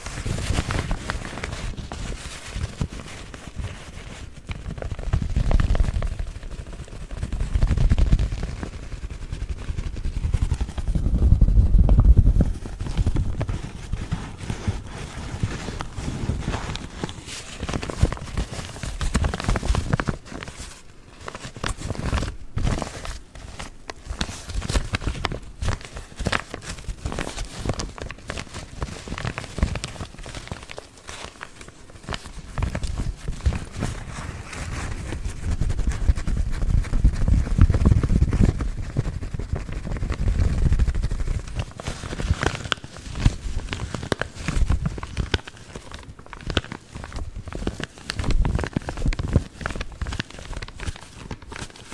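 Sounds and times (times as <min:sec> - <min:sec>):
paper filters crinkling: 0:00.0 - 0:51.9.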